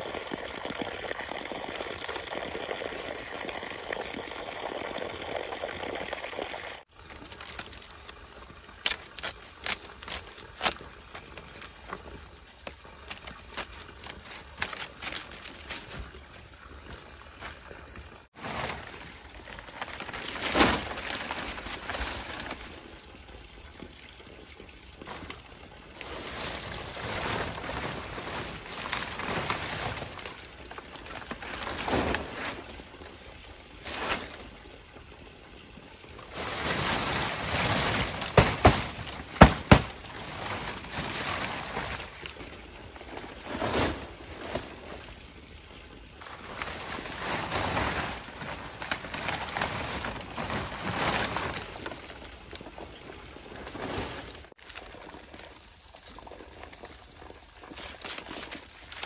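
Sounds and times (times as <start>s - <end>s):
water splashing and sloshing: 4.8s - 59.0s.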